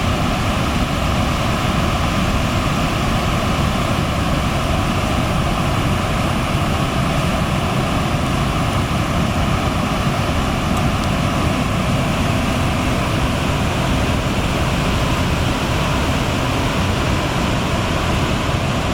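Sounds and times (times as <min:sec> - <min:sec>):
floodwater rushing: 0:00.0 - 0:18.9.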